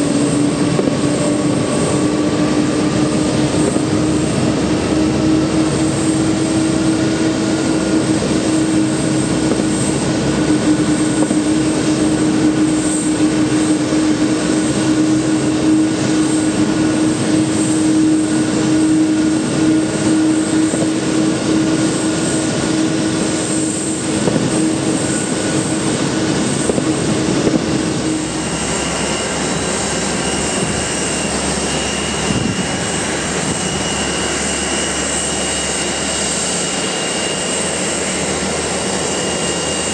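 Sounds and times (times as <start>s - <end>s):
airport ramp noise: 0.0s - 39.9s
jet engines at takeoff power: 0.0s - 39.9s
steady high-pitched whine: 0.0s - 39.9s.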